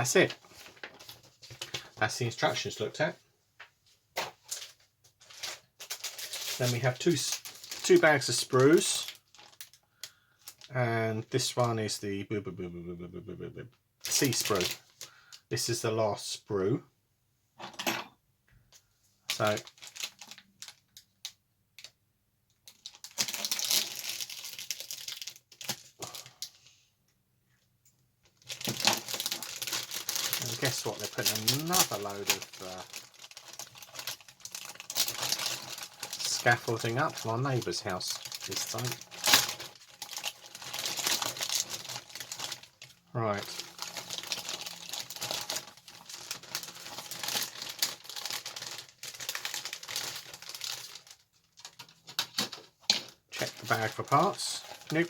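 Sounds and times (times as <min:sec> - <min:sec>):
plastic bag crinkling: 0:00.0 - 0:02.9, 0:04.4 - 0:11.5, 0:14.0 - 0:15.4, 0:19.3 - 0:21.9, 0:22.6 - 0:26.6, 0:28.2 - 0:55.0.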